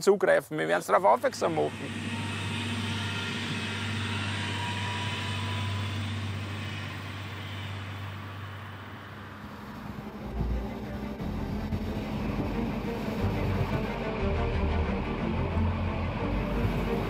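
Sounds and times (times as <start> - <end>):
railcar engine drone: 0.8 - 17.0
rushing noise: 1.0 - 17.0.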